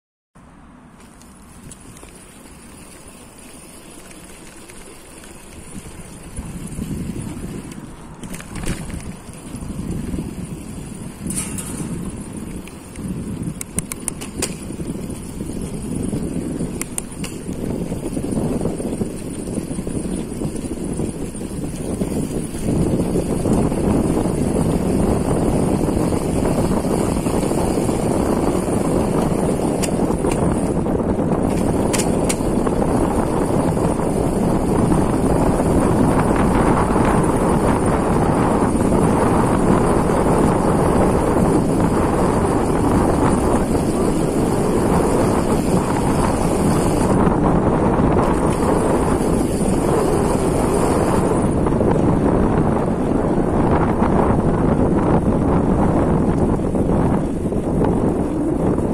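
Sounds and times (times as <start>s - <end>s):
tyre and drive rumble: 0.4s - 58.9s
wind buffeting microphone: 1.0s - 58.9s.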